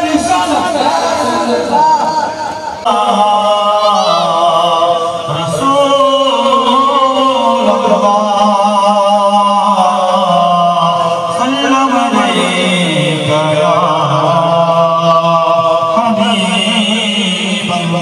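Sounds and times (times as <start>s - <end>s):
man chanting over loudspeaker: 0.0s - 18.0s.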